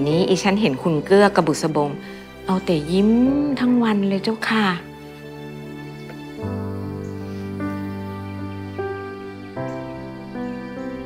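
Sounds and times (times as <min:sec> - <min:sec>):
soft sad background music: 0:00.0 - 0:11.0.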